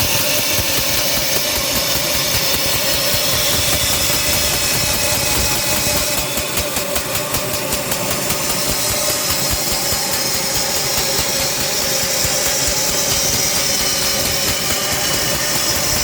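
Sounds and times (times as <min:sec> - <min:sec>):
sawmill machinery hum: 0:00.0 - 0:16.0.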